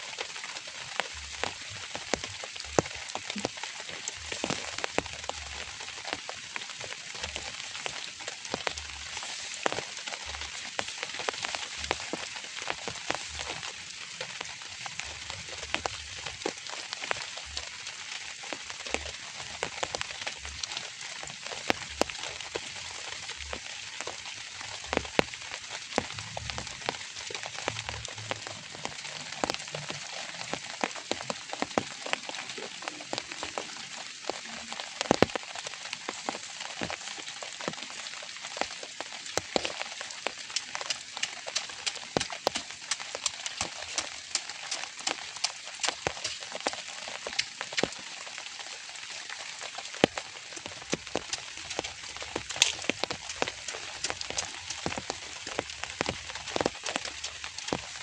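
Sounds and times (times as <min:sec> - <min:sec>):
sharp raindrop hits: 0:00.8 - 0:58.0.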